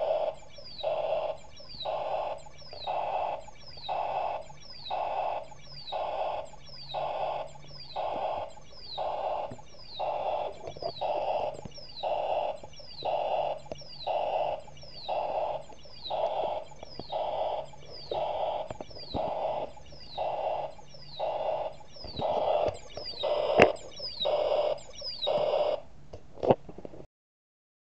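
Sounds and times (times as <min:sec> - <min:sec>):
electronic falling whistle and tone: 0:00.0 - 0:25.8
sharp clicks: 0:00.0 - 0:25.8.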